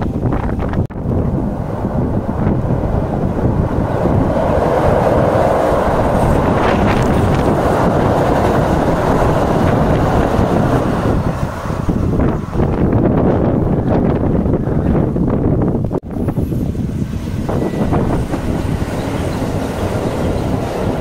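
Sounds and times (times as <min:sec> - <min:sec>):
train wheels rumbling on rails: 0:00.0 - 0:21.0
wind buffeting microphone: 0:00.0 - 0:21.0.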